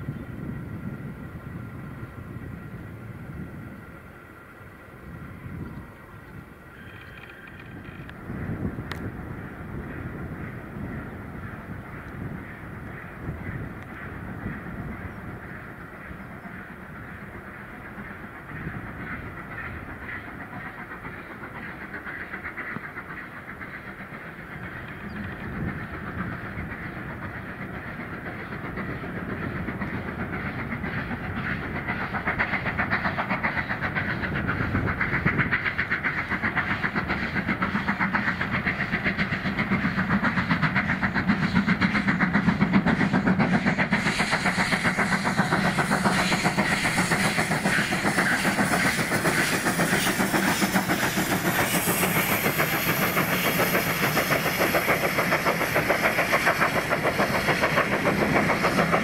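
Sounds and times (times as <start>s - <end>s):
steam hiss: 0.0s - 59.0s
steam locomotive rhythmic beat: 8.4s - 59.0s.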